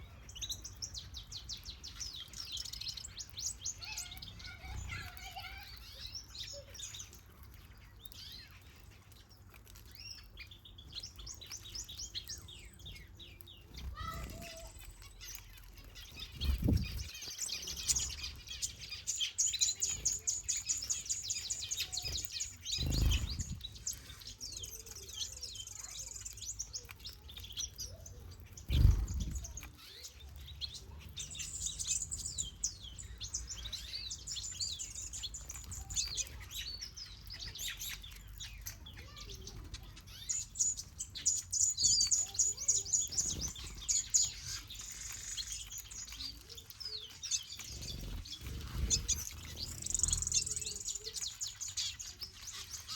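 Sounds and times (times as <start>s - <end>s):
finches chirping and twittering: 0.0s - 52.9s.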